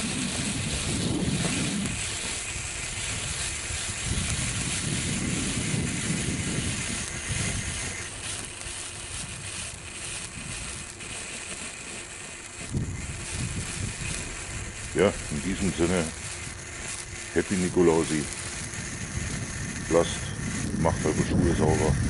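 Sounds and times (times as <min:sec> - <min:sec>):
sparkler fountains hissing: 0:00.0 - 0:22.0
wind rumbling on microphone: 0:00.0 - 0:22.0.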